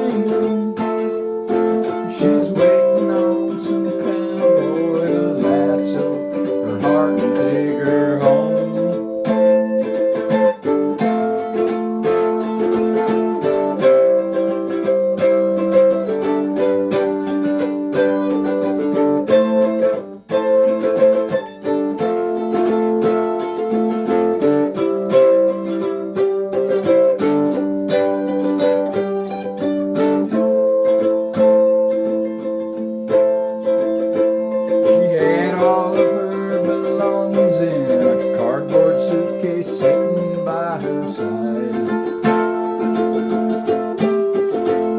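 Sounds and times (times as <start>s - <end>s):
electric mandolin chords: 0.0s - 44.9s.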